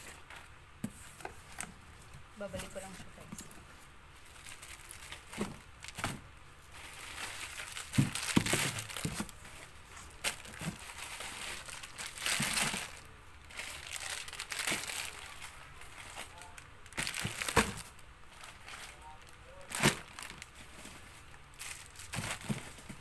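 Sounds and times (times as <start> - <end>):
packaging crinkling: 4.2 - 23.0.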